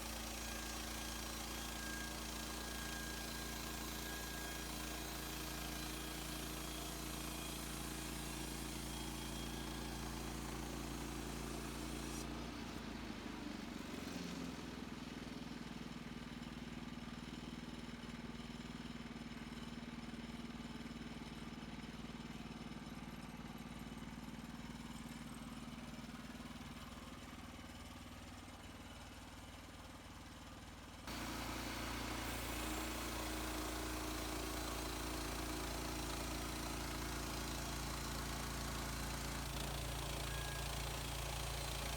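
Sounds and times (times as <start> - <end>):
sawmill gas engine running: 0.0 - 41.9.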